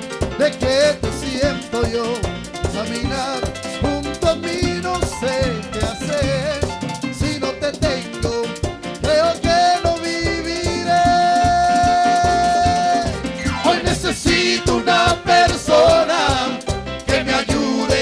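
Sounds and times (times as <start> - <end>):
drum beat: 0.0 - 18.0
live band playing worship music: 0.0 - 18.0.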